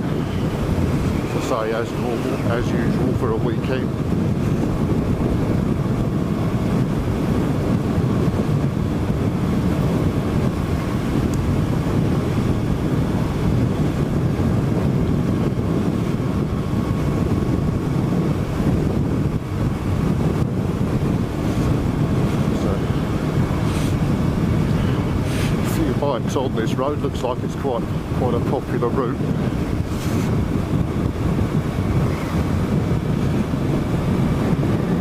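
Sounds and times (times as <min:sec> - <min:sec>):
motorcycle engine cruising: 0:00.0 - 0:28.6
wind rushing over microphone: 0:00.0 - 0:35.0.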